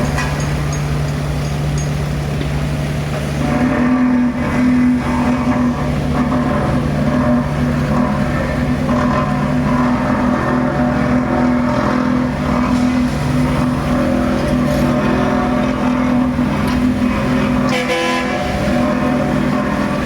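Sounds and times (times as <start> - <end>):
heavy engine running: 0.0 - 20.0.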